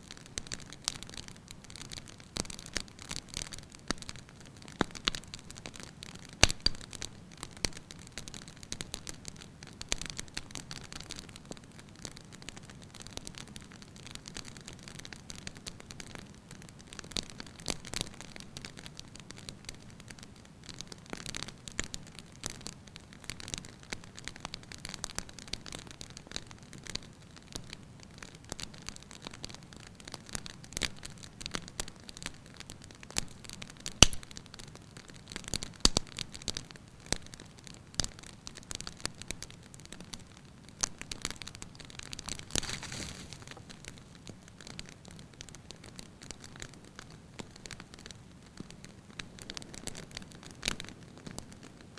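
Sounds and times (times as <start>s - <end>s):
soft hiss: 0.0s - 51.9s
wood fire crackling and popping: 0.0s - 51.9s.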